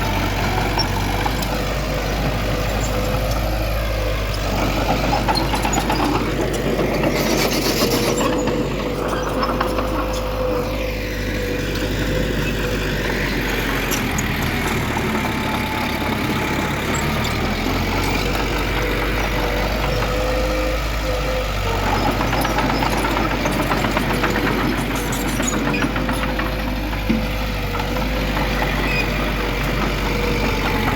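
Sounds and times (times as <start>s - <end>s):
heavy diesel machinery running: 0.0s - 30.9s.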